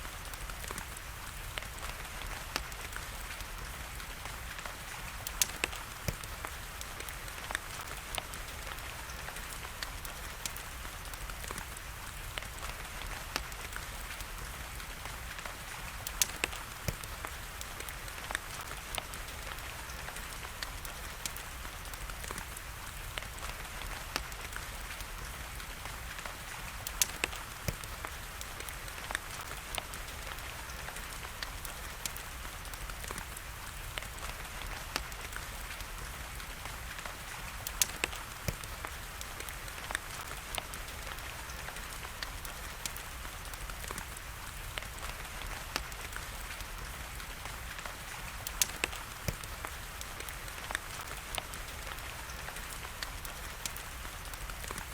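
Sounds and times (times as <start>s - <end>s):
fireplace fire crackling: 0.0s - 54.9s
rain hiss: 0.0s - 54.9s.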